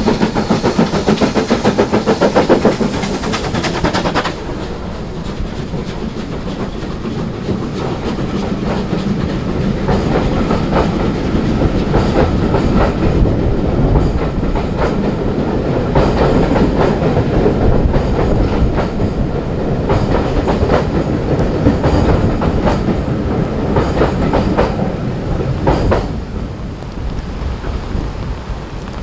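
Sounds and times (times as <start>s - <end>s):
train rumble: 0.0s - 29.0s
train wheels clicking over rail joints: 0.0s - 29.0s.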